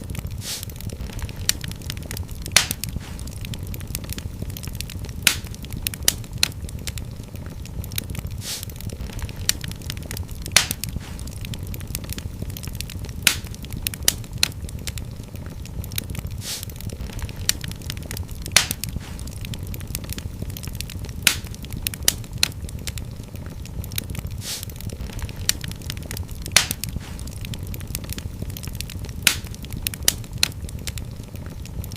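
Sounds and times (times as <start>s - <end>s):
fire crackling and popping: 0.0s - 31.9s
low rumble of flames: 0.0s - 31.9s.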